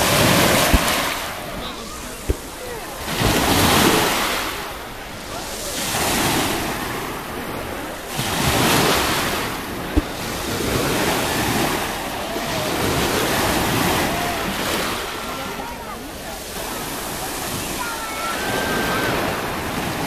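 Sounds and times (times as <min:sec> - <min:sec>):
sea waves breaking on shore: 0:00.0 - 0:20.0.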